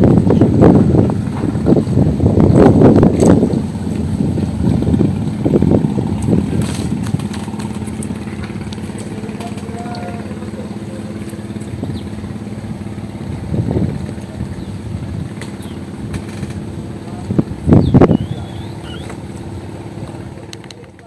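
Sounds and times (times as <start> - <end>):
small engine idling: 1.4 - 21.0.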